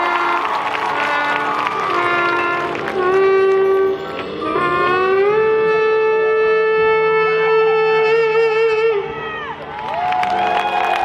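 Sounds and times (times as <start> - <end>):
marching band holding long note: 0.0 - 11.0.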